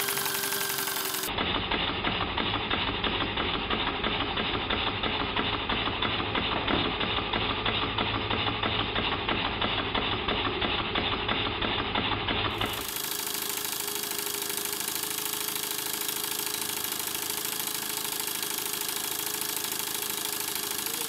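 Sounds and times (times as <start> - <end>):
model steam engine beating: 0.0 - 21.0.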